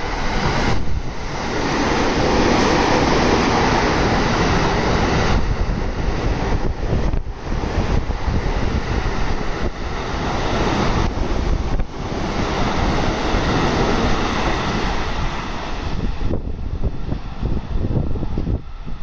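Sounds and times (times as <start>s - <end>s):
train rushing past: 0.0s - 19.0s.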